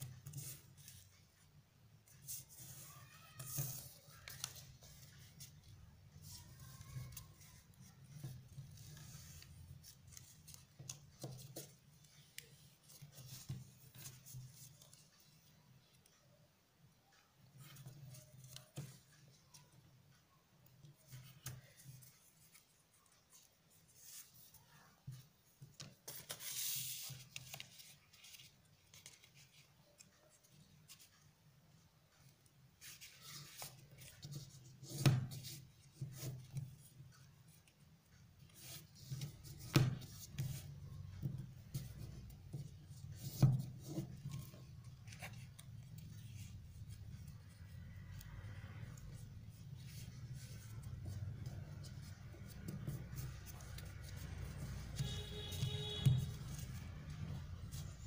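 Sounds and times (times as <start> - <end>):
paper being folded and creased: 0.0 - 1.4, 2.0 - 16.2, 17.5 - 19.8, 20.7 - 31.2, 32.1 - 58.0.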